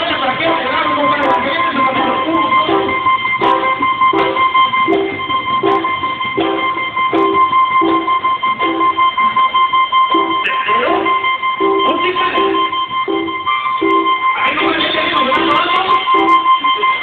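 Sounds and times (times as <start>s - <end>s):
dance music: 0.0s - 17.0s
high held tone: 0.0s - 17.0s
keyboard riff: 0.0s - 17.0s
steady beat: 0.0s - 17.0s.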